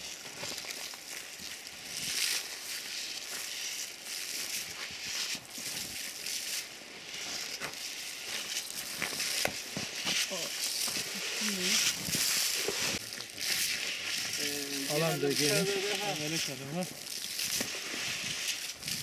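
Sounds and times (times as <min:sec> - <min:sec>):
footsteps on snow: 0:00.0 - 0:19.0
grain feed tossed on ground: 0:00.0 - 0:19.0.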